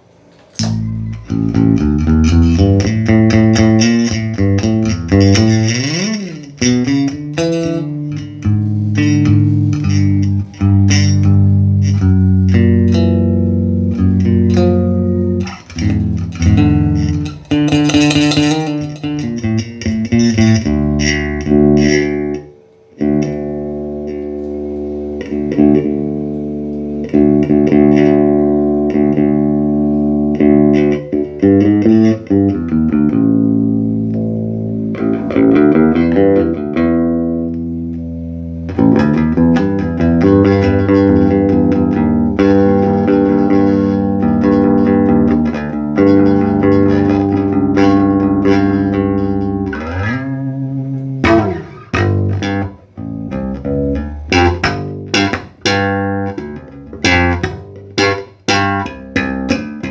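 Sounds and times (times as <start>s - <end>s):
electric bass through amp: 0.0s - 59.9s.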